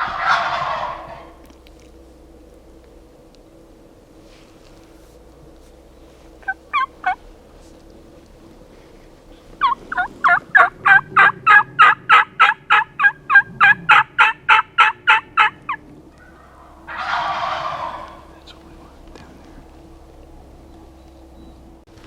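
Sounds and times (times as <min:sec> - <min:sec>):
turkey call notes: 0:00.0 - 0:21.8.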